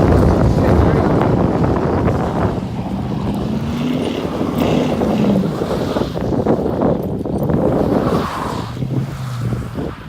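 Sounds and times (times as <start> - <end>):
pickup truck engine revving: 0.0 - 10.0
wind buffeting microphone: 0.0 - 10.0.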